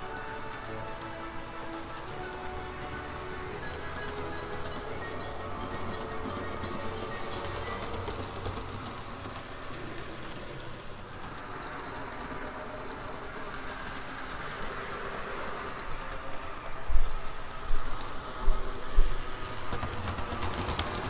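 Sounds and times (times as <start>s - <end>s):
model train motor hum: 0.0s - 21.0s
wheels on rails: 0.0s - 21.0s.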